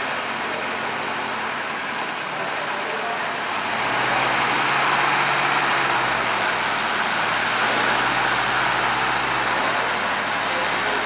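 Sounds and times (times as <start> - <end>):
car engine running at low revs: 0.0 - 11.0
echoing hall background noise: 0.0 - 11.0.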